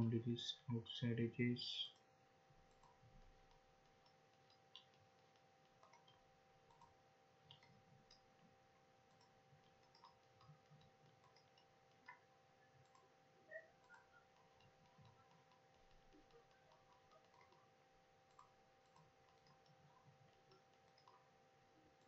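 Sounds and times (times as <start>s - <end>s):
faint steady hum: 0.0s - 22.0s
computer mouse clicks: 1.9s - 22.0s.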